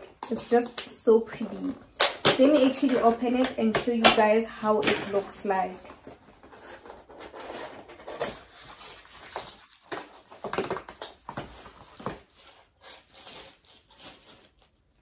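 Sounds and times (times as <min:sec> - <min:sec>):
packaging rustling and scraping: 0:00.0 - 0:15.0.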